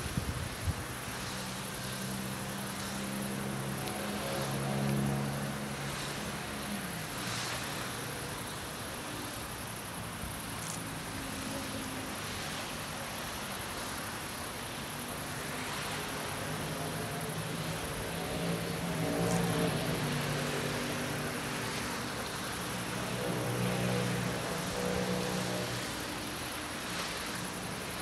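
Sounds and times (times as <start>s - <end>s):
faint high insect trill: 0.0s - 28.0s
distant propeller aircraft droning: 0.4s - 28.0s.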